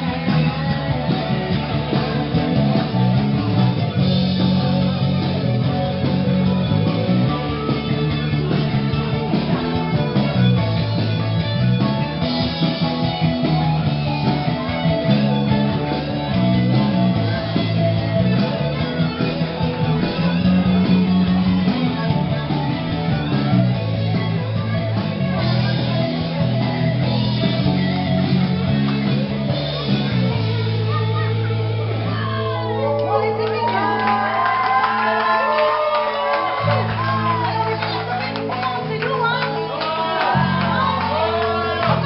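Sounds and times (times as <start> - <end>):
electric guitar: 0.0 - 42.0
rock band playing: 0.0 - 42.0.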